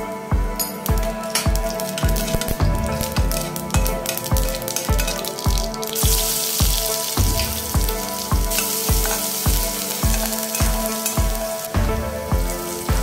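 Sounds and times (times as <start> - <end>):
background music with steady beat: 0.0 - 13.0
garlic sizzling in hot oil: 0.7 - 13.0.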